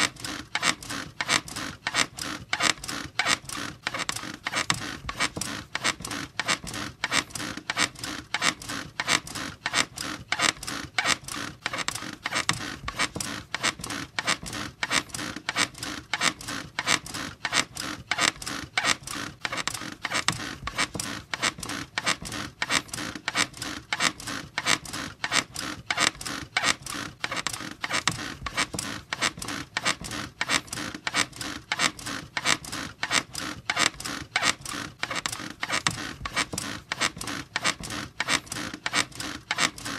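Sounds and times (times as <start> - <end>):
bed frame squeaking rhythmically: 0.0 - 39.9.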